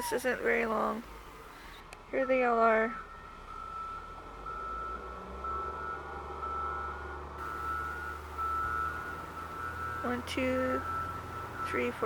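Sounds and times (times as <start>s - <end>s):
low engine rumble: 0.0s - 12.0s
reversing alarm beeping: 1.2s - 12.0s.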